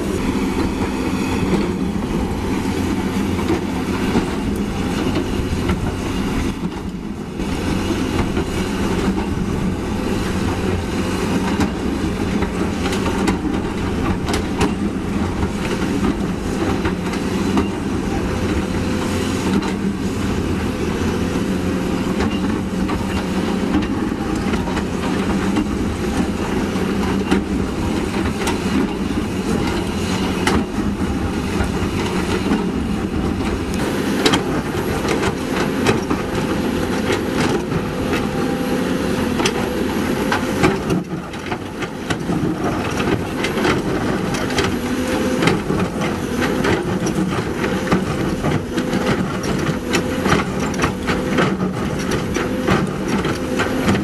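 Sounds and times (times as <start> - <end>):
excavator diesel engine running: 0.0 - 54.0
steel tracks clattering over gravel: 0.0 - 54.0.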